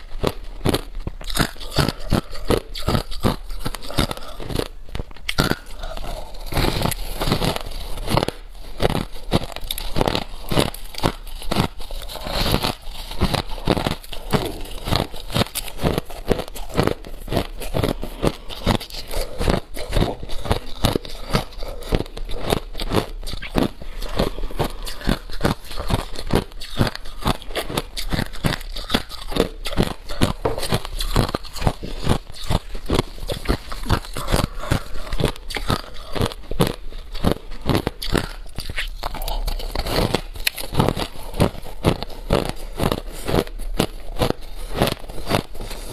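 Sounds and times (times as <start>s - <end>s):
person chewing crushed ice: 0.0s - 45.9s.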